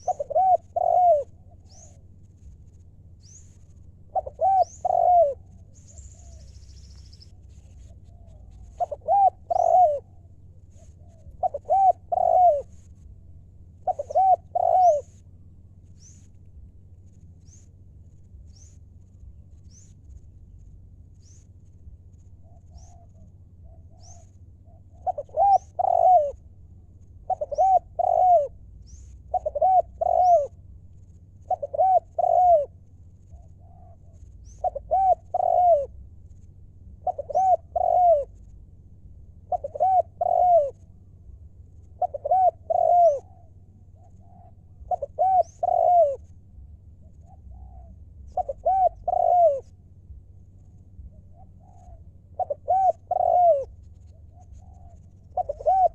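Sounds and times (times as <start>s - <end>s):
dove cooing: 0.0s - 2.2s, 3.2s - 15.2s, 22.3s - 36.1s, 36.9s - 38.6s, 39.2s - 41.1s, 41.8s - 55.9s
small birds chirping: 0.0s - 55.9s.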